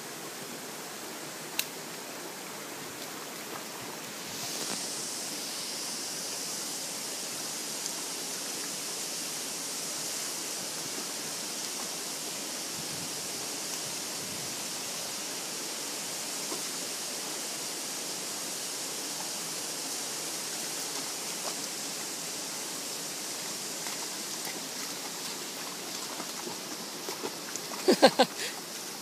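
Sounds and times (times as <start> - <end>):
rushing mountain stream: 0.0 - 29.0.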